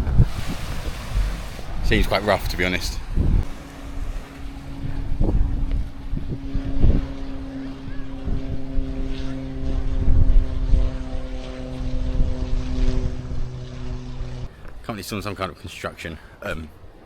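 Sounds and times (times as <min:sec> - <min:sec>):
steady engine drone: 0:00.0 - 0:14.8
wind gusting on microphone: 0:00.0 - 0:14.9.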